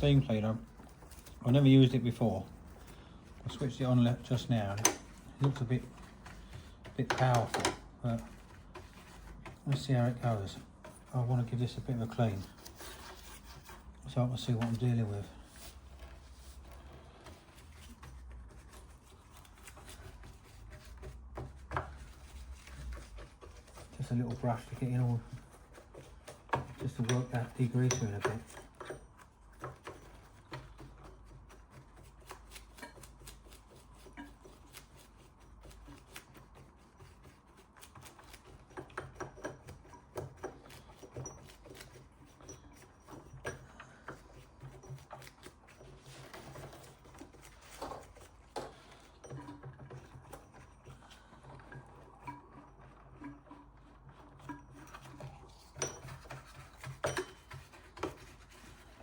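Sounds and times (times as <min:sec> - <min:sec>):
brush scrubbing metal parts: 0:00.0 - 0:59.0
small clicks and knocks: 0:02.5 - 0:11.1, 0:11.8 - 0:59.0.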